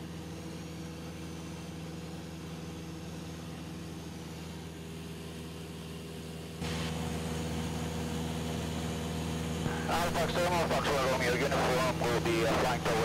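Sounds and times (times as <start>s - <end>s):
aircraft engine droning: 0.0s - 13.0s.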